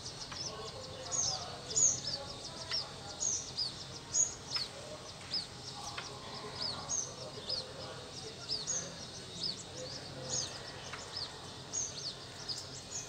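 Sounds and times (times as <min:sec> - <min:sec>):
waterhen chick peeping: 0:00.0 - 0:13.0.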